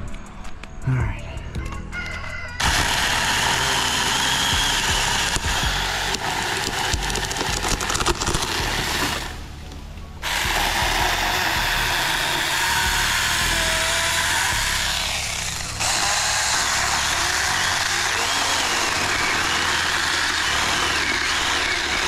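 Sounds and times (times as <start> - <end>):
electric chainsaw cutting: 2.6 - 9.5, 10.2 - 22.0.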